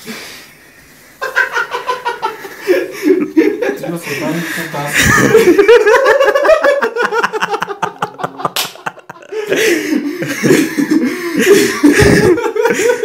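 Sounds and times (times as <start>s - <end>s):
people laughing: 1.2s - 13.0s.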